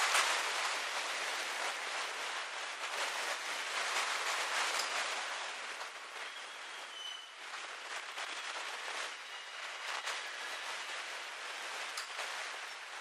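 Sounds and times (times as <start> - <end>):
wagon wheels rolling on rails: 0.0 - 13.0.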